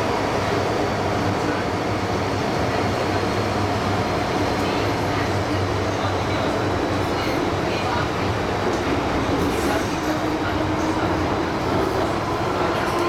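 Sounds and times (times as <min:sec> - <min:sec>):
subway train running in tunnel: 0:00.0 - 0:13.0.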